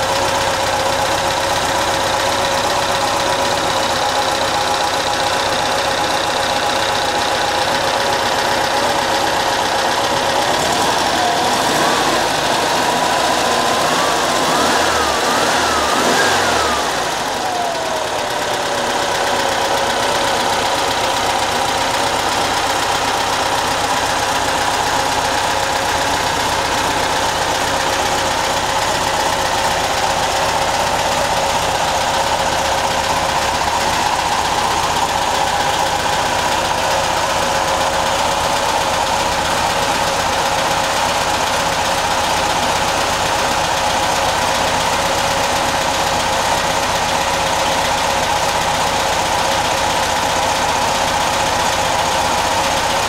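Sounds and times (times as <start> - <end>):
car engine revving and idling: 0.0 - 53.0.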